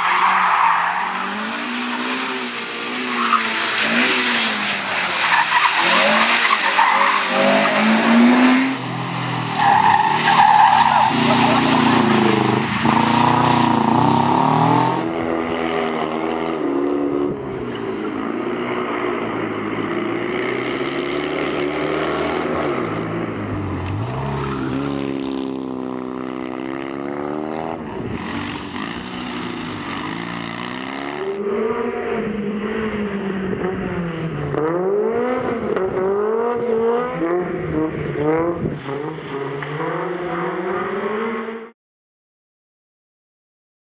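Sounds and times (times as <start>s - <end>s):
rally car engines revving: 0.0s - 41.7s.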